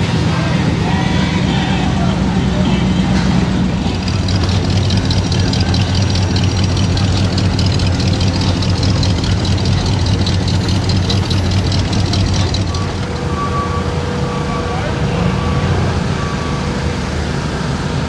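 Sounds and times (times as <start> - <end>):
car engines idling: 0.0 - 18.0.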